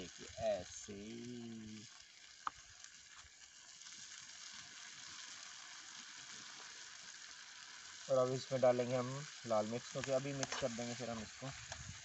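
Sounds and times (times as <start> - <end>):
food sizzling in pan: 0.0 - 12.0.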